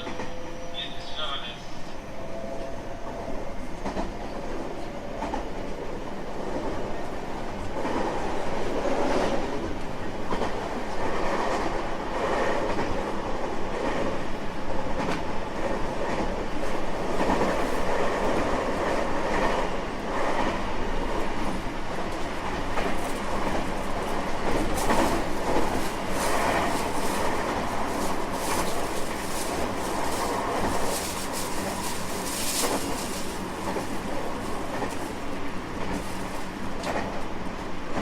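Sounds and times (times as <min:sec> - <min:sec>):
rumble of train wheels on rail: 0:00.0 - 0:38.0.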